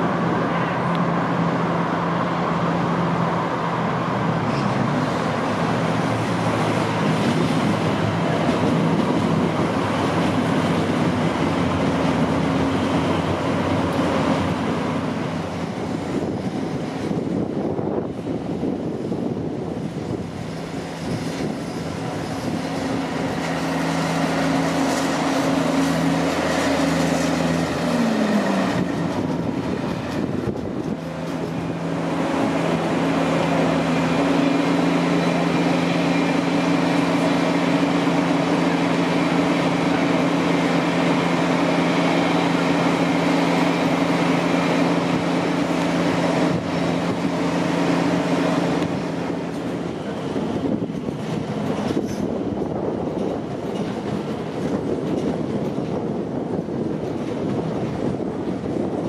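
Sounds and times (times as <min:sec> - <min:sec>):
electric train humming: 0:00.0 - 0:59.0
train wheels on track: 0:00.0 - 0:59.0.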